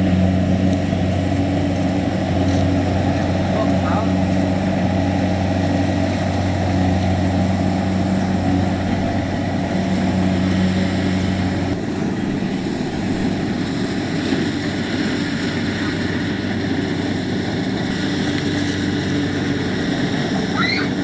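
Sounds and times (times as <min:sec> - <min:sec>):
combine harvester engine hum: 0:00.0 - 0:21.0.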